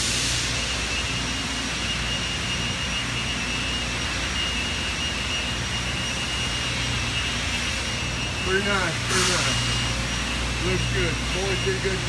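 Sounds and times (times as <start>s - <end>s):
factory machinery drone: 0.0s - 12.0s
faint high whine: 0.0s - 12.0s.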